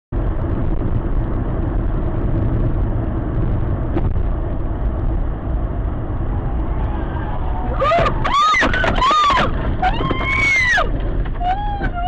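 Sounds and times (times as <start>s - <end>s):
car road and engine rumble: 0.1s - 12.0s.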